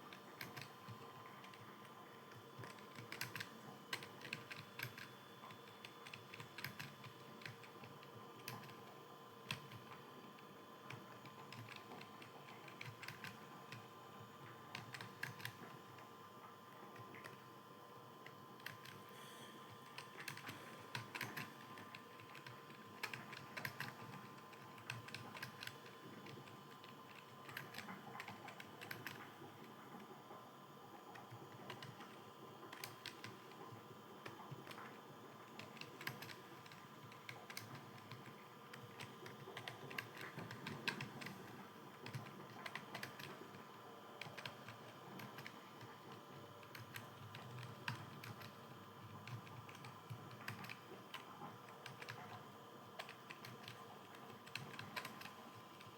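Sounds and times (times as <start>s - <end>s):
computer keyboard typing: 0.0s - 10.1s, 10.8s - 16.1s, 16.9s - 17.5s, 18.2s - 19.1s, 19.7s - 30.1s, 31.1s - 55.9s.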